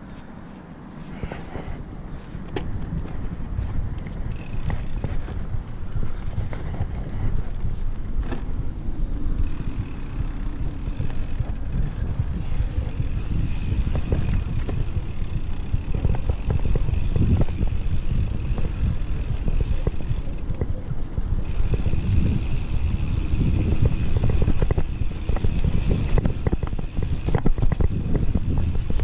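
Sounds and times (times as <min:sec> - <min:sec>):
bike knocking and rattling: 0:00.0 - 0:29.0
wind and tyre rumble: 0:00.0 - 0:29.0.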